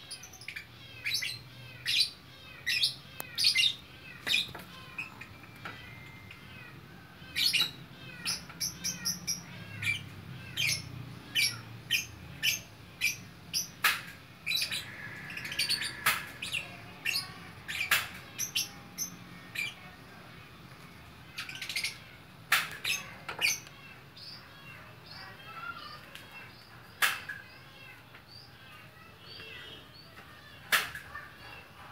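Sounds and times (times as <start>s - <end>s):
lovebirds chirping and squawking: 0.0s - 20.0s, 20.8s - 31.9s.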